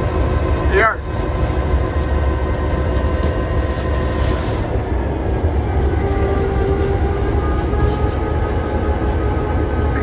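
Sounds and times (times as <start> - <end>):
diesel locomotive rumble: 0.0 - 10.0.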